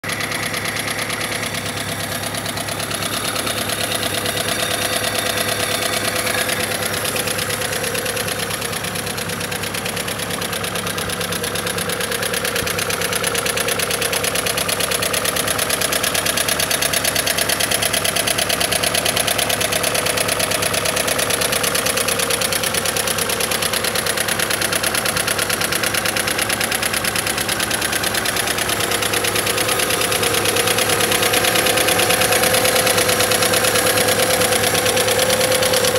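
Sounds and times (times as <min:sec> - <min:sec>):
engine running at fast idle: 0:00.0 - 0:35.9.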